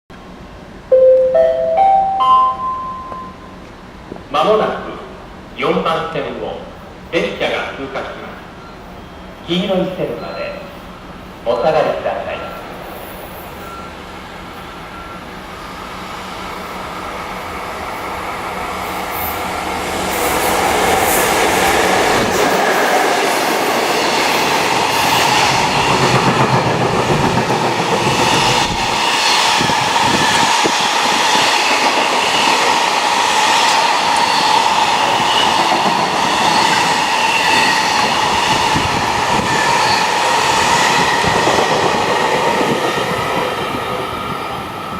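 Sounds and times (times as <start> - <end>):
freight train passing: 0.1 - 44.9.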